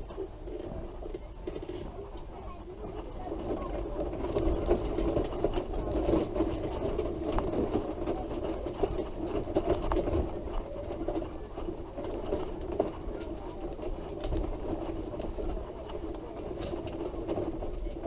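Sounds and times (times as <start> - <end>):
wheelchair rattling on bumpy path: 0.0 - 18.0.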